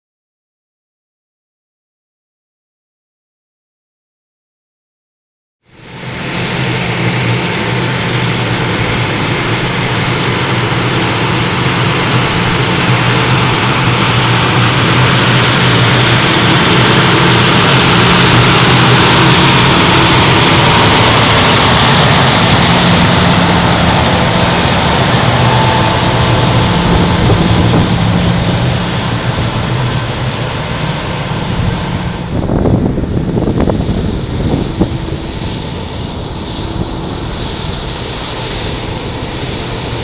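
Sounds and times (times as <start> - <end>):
tractor diesel engine driving past: 5.8 - 40.0.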